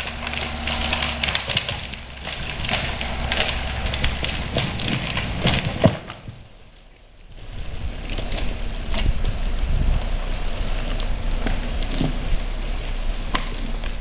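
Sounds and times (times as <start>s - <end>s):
branches cracking and snapping: 0.0s - 14.0s
vehicle engine running: 0.0s - 14.0s.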